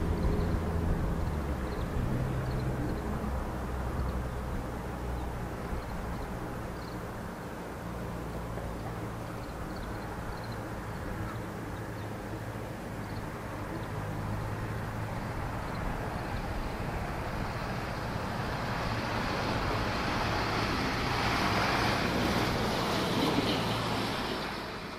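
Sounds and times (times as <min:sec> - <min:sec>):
distant road traffic hum: 0:00.0 - 0:24.9
vehicle approaching: 0:00.0 - 0:24.9.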